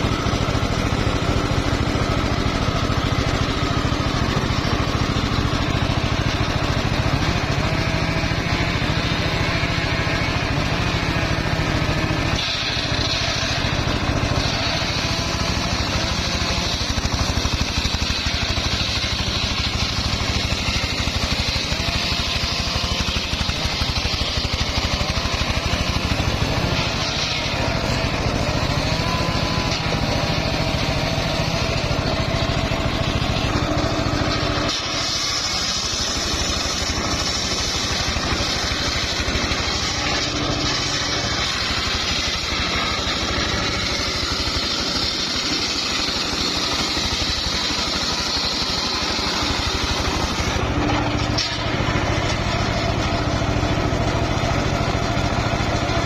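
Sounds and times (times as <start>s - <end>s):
saw blade whining through log: 0.0s - 56.0s
sawmill engine running: 0.0s - 56.0s.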